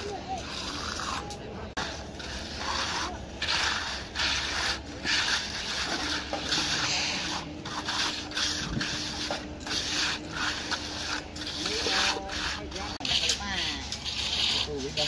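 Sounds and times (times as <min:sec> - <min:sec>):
trowels scraping wet concrete: 0:00.0 - 0:15.0.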